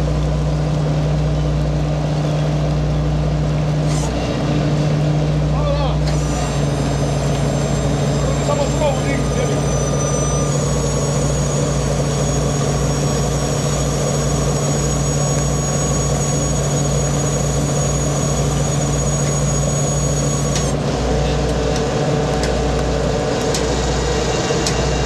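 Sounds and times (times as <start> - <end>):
diesel engine and machinery drone: 0.0 - 25.0
high machine whine: 0.0 - 25.0.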